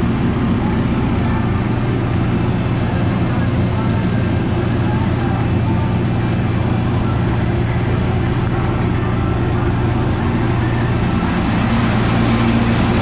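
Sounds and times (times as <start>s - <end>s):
ride train rumbling on track: 0.0s - 13.0s.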